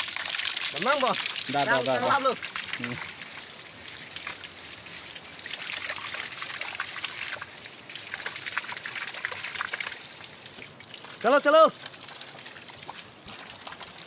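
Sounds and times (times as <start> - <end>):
waterfall stream trickling and splashing: 0.0 - 14.0.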